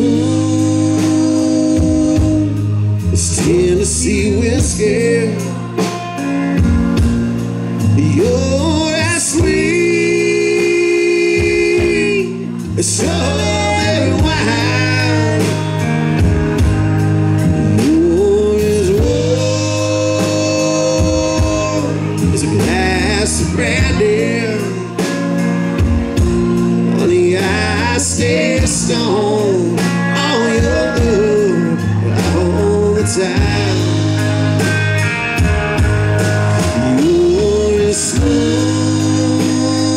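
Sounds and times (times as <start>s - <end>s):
bass: 0.0s - 39.9s
drums: 0.0s - 39.9s
electric guitar: 0.0s - 39.9s
keyboard: 0.0s - 39.9s
lead melody with bending notes: 0.0s - 39.9s.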